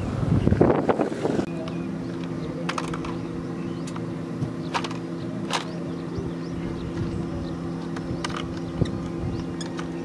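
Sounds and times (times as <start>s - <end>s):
motor humming: 0.1s - 10.0s.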